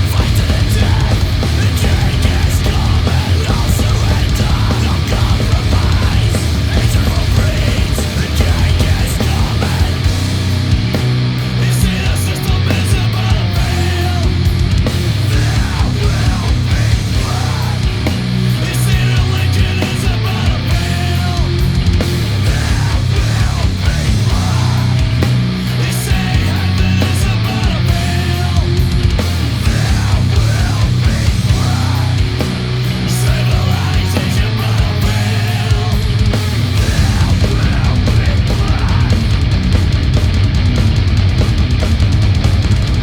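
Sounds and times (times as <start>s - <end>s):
heavy metal band playing: 0.0s - 43.0s.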